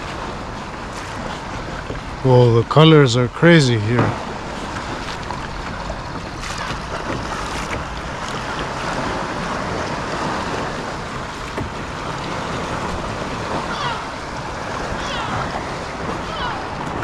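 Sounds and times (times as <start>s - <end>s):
water washing against kayak hull: 0.0s - 17.0s.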